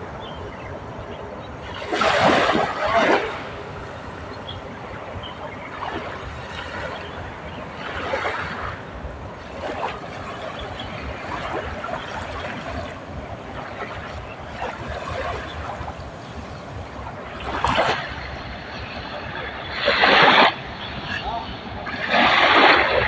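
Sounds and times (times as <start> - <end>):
sea waves washing on shore: 0.0 - 23.0
wind rumbling on microphone: 0.0 - 23.0.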